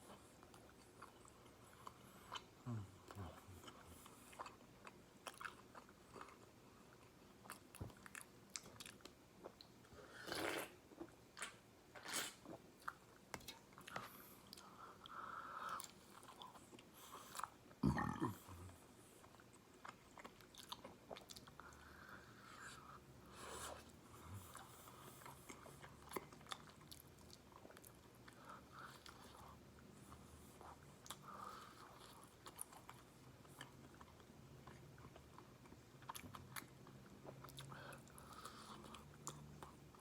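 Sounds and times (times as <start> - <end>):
chewing crunchy fried chicken: 0.2 - 14.9, 19.2 - 23.0, 23.8 - 40.0.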